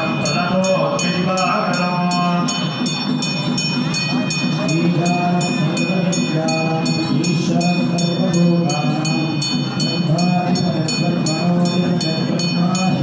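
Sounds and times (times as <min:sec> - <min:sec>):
steady drone: 0:00.0 - 0:13.0.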